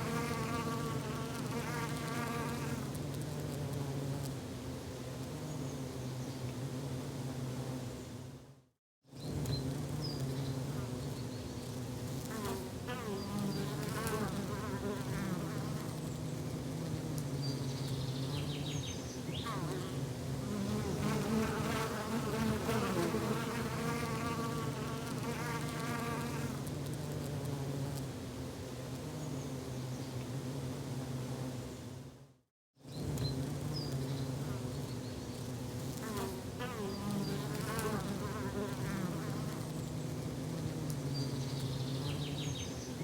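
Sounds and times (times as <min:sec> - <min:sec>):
flying insects buzzing: 0:00.0 - 0:08.5, 0:09.2 - 0:32.1, 0:32.9 - 0:43.0.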